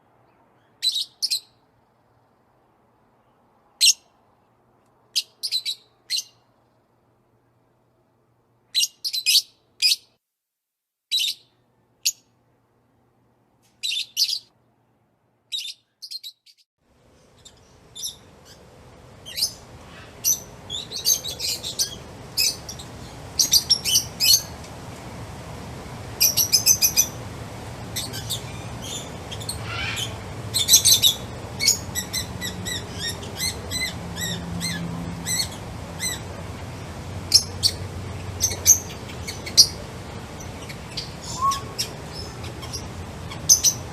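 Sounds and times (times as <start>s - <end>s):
outdoor ambience: 0.0s - 10.2s, 11.1s - 43.9s
songbirds chirping and trilling: 0.1s - 6.9s, 13.7s - 14.5s, 15.5s - 43.9s.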